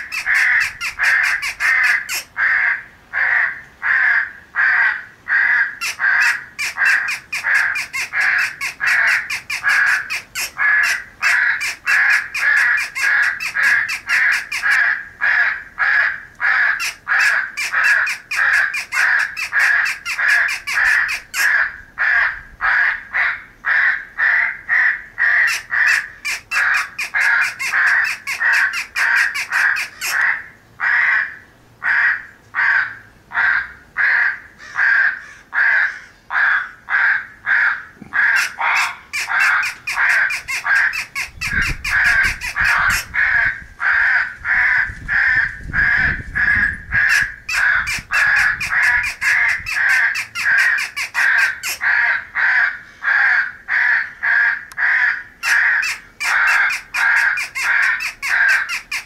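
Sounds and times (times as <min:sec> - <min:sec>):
crows cawing: 0:00.0 - 0:59.0.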